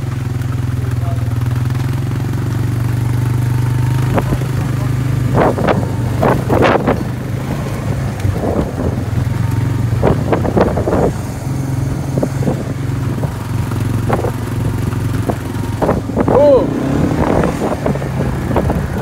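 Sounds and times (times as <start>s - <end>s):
cattle hooves on tarmac: 0.0s - 16.4s, 17.2s - 19.0s
engine humming: 0.0s - 19.0s.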